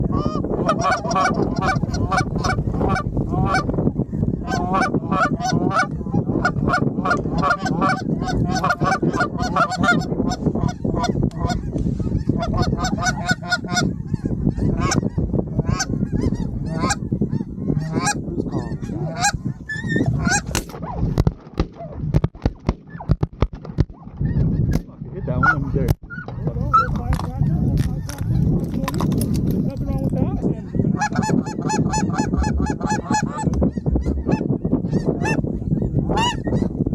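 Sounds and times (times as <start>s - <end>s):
geese honking: 0.0s - 3.8s, 4.4s - 21.0s, 24.0s - 29.0s, 30.5s - 36.8s.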